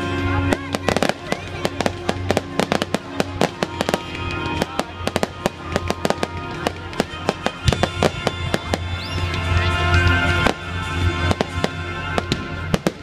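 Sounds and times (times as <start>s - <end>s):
fireworks bangs and crackles: 0.0s - 13.0s
music playing: 0.0s - 13.0s
firework whistle: 0.8s - 13.0s.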